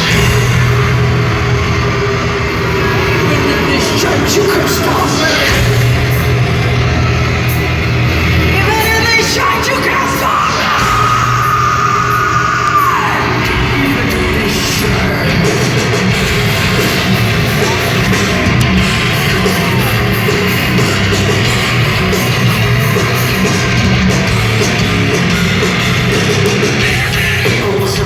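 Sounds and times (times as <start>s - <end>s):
electric guitars: 0.0s - 28.0s
live heavy metal band: 0.0s - 28.0s.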